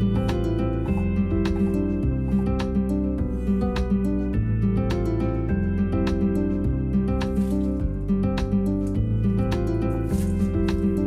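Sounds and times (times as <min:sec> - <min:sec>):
bass line with steady beat: 0:00.0 - 0:11.0
plucked acoustic guitar: 0:00.0 - 0:11.0.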